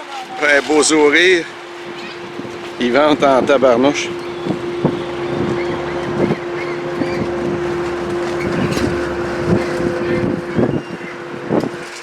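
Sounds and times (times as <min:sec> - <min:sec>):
road and engine drone: 0:00.5 - 0:12.0
wind noise on microphone: 0:01.0 - 0:12.0.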